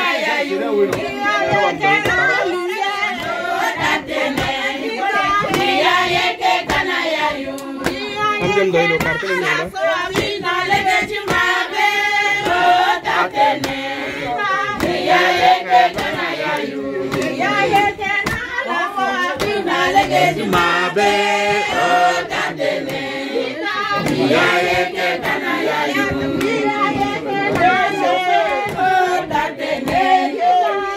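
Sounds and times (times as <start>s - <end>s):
women singing in chorus: 0.0s - 30.9s
hand clapping: 0.1s - 23.2s, 23.9s - 30.6s.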